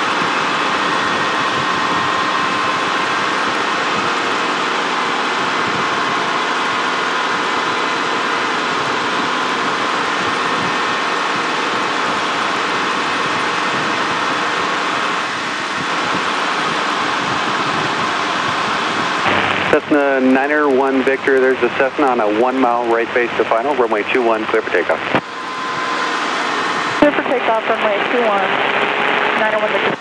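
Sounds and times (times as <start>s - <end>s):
faint steady whine: 0.0s - 30.0s
helicopter engine and rotor din: 0.0s - 30.0s.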